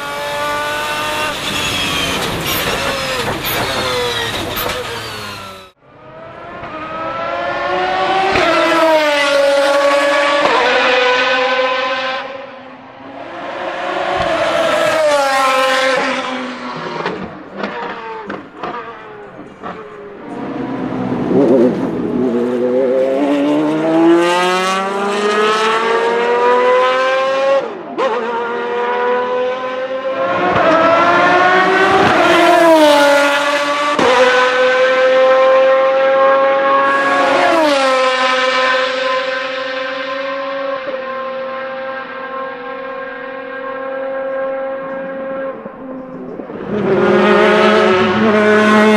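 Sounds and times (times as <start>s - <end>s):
racing engine at full throttle: 0.0s - 48.9s.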